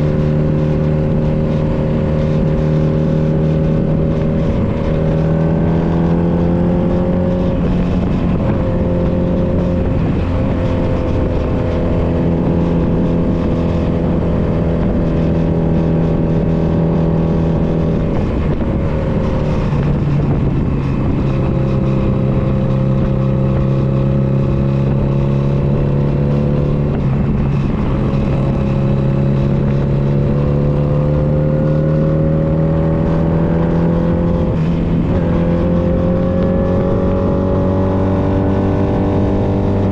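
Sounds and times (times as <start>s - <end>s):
low wind rumble: 0.0s - 39.9s
motorcycle engine running: 0.0s - 39.9s.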